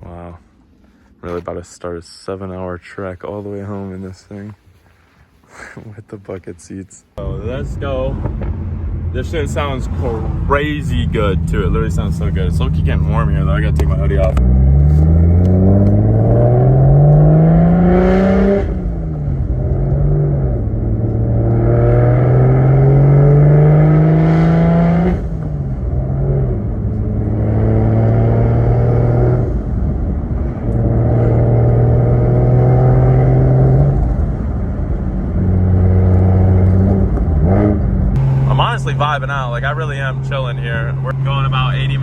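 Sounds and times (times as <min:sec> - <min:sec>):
car engine accelerating through gears: 0:07.2 - 0:42.0.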